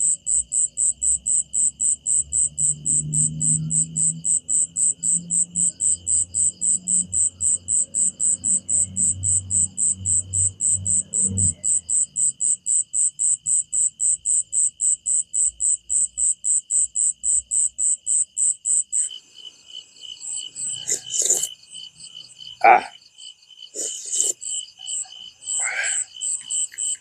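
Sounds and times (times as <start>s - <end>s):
high-pitched insect chirp: 0.0s - 27.0s
steady insect trill: 0.0s - 27.0s.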